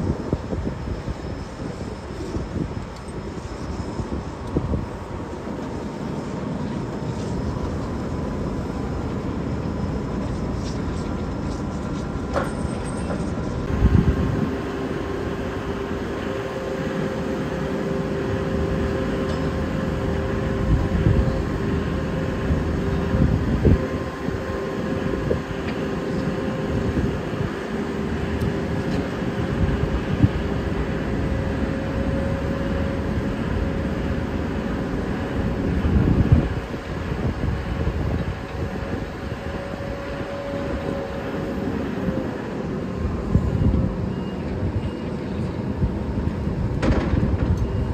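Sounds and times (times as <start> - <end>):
heavy equipment engines rumbling: 0.0 - 47.9
high-pitched whine: 0.0 - 47.9.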